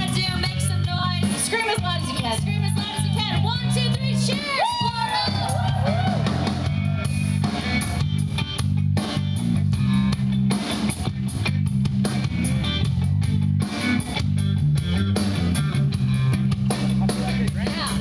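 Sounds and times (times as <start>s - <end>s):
bass guitar: 0.0s - 18.0s
drum kit beat: 0.0s - 18.0s
electric guitar: 0.0s - 18.0s.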